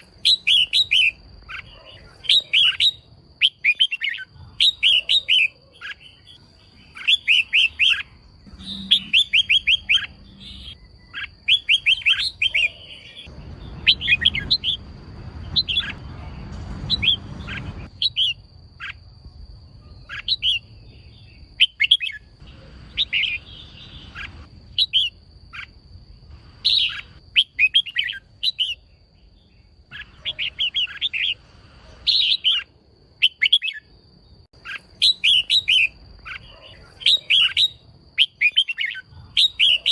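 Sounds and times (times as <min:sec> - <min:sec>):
bird chattering chirps: 0:00.0 - 0:14.8, 0:15.4 - 0:19.1, 0:19.7 - 0:25.8, 0:26.5 - 0:33.9, 0:34.5 - 0:39.9.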